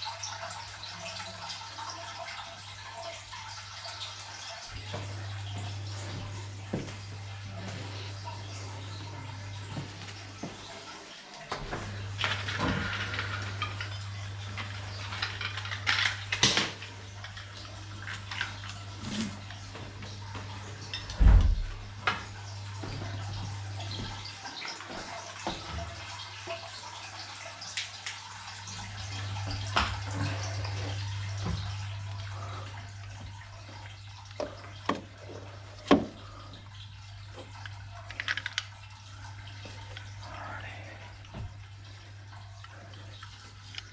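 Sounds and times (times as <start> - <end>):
water running: 0.0 - 43.9.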